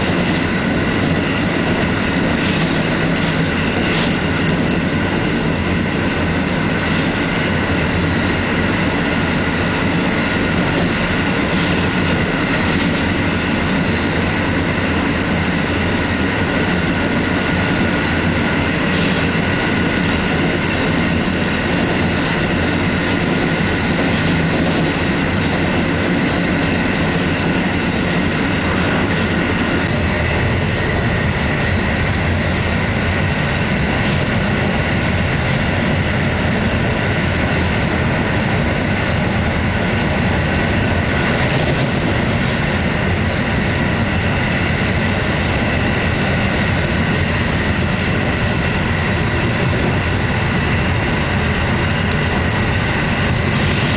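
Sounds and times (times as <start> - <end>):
low hum: 0.0 - 53.9
steady train whine: 0.0 - 53.9
train wheels rumbling on rail: 0.0 - 53.9.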